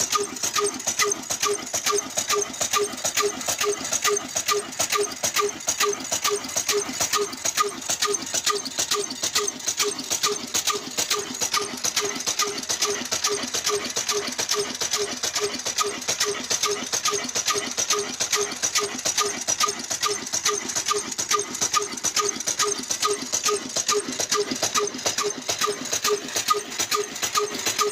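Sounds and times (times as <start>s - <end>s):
stationary diesel engine knocking: 0.0s - 27.9s
valve gear clatter: 0.0s - 27.9s.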